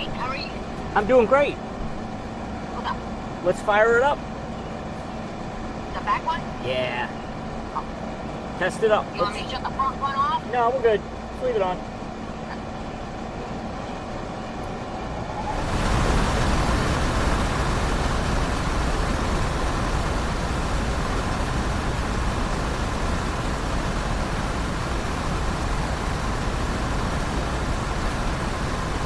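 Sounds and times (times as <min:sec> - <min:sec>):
air conditioner running: 0:00.0 - 0:29.0.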